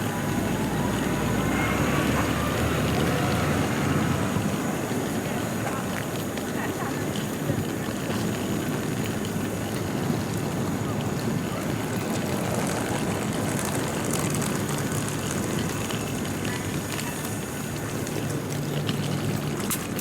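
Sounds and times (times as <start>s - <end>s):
aircraft cabin rumble and hiss: 0.0s - 20.0s.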